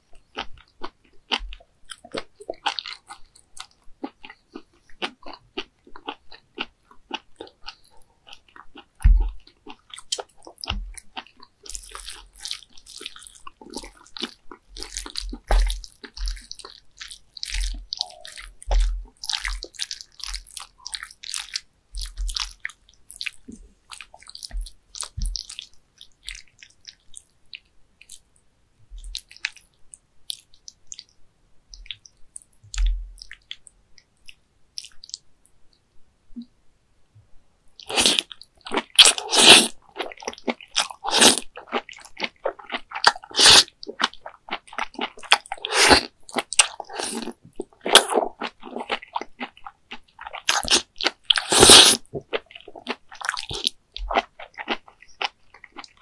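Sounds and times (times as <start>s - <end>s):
wet eating sound: 0.3s - 28.2s, 37.8s - 56.0s.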